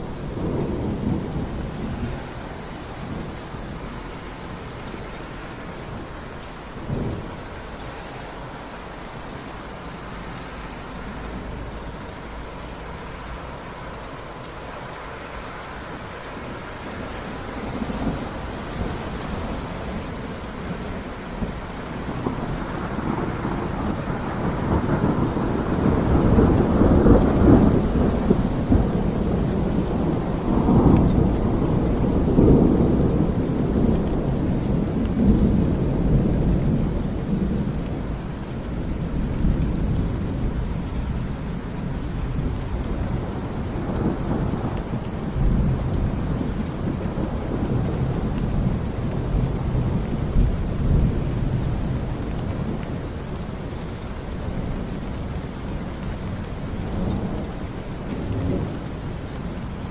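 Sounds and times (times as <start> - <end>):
rolling thunder: 0.0 - 14.4, 15.6 - 59.9
steady rain: 0.0 - 59.9.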